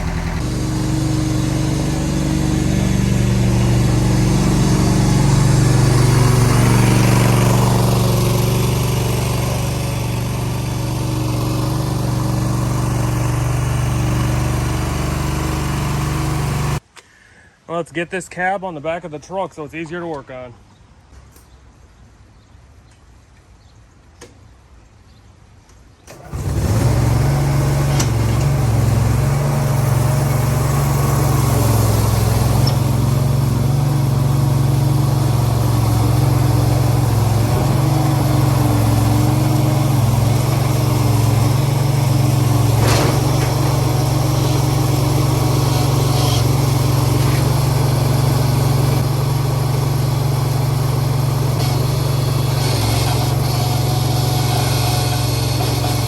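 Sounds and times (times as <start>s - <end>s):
engine running steadily: 0.0s - 16.8s, 26.1s - 56.0s.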